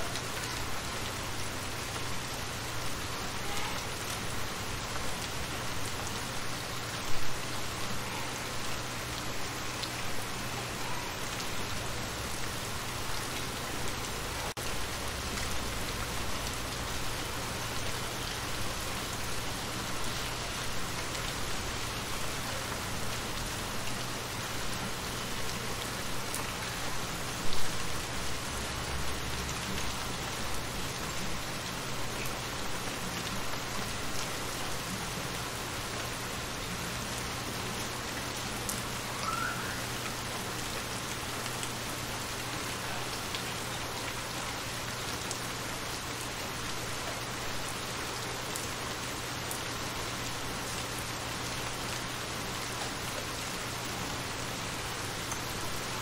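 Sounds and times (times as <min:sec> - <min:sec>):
rain falling into shallow water: 0:00.0 - 0:56.0.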